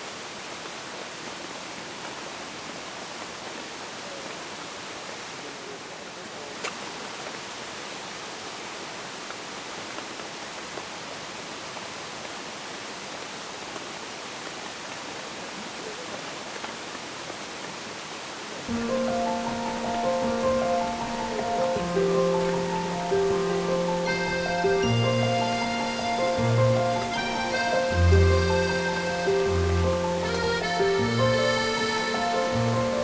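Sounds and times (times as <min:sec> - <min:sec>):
steady rain in forest: 0:00.0 - 0:33.0.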